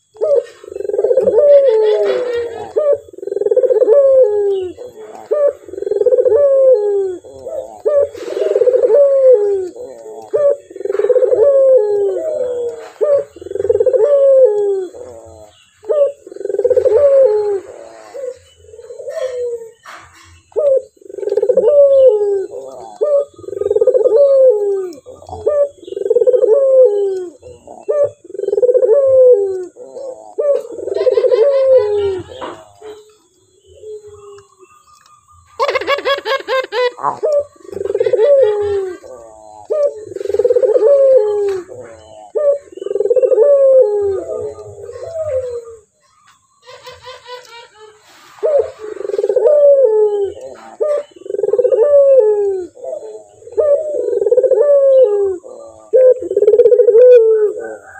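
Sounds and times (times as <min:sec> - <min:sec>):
dove cooing: 0:00.0 - 0:57.9.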